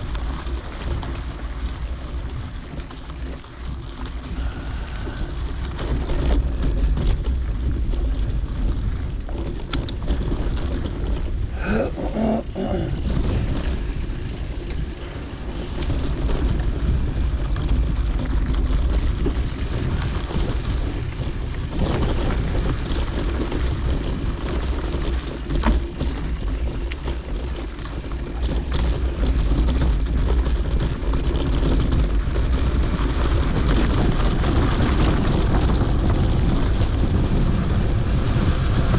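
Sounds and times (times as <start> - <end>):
tyre noise on dirt trail: 0.0 - 38.9
wind rumbling on microphone: 0.0 - 38.9.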